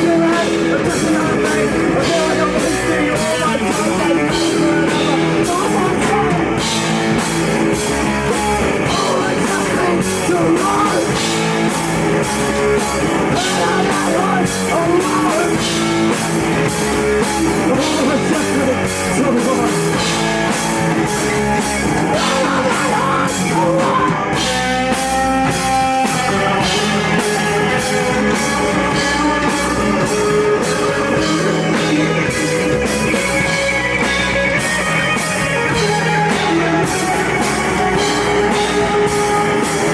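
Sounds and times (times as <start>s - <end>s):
distorted electric guitar: 0.0s - 39.9s
drum kit: 0.0s - 39.9s
rock vocals: 0.0s - 39.9s.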